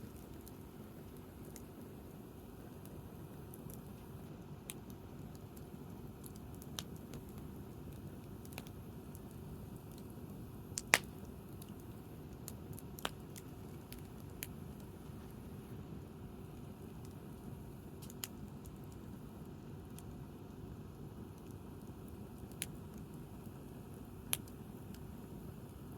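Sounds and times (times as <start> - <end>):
low steady background noise: 0.0 - 25.9
wood fire crackling: 0.0 - 25.9.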